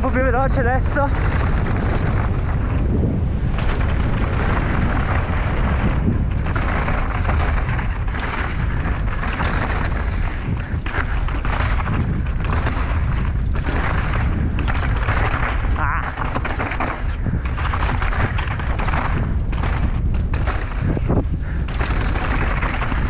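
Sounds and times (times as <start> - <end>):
bike tyres rolling over dirt: 0.0 - 23.0
wind buffeting microphone: 0.0 - 23.0
bike knocks on rough ground: 1.1 - 23.0.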